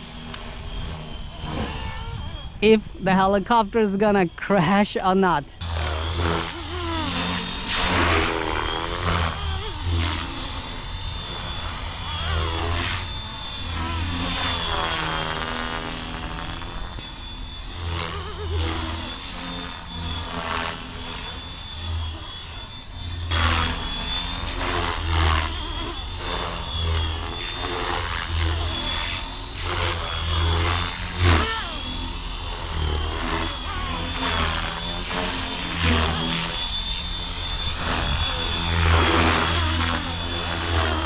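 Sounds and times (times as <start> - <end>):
rc helicopter rotor whine: 0.0 - 41.0.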